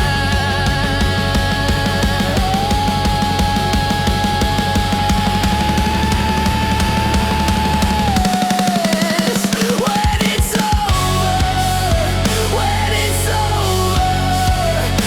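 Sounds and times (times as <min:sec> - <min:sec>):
heavy rock band playing: 0:00.0 - 0:15.0.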